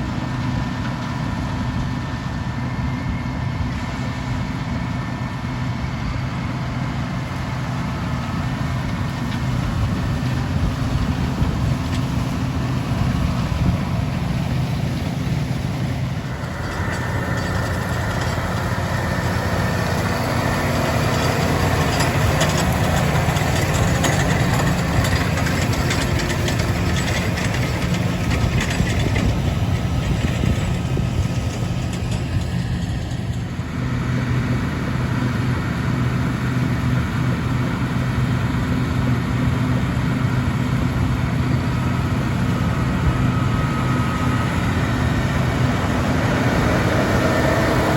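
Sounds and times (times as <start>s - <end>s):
diesel engines of harvest machinery: 0.0s - 47.9s.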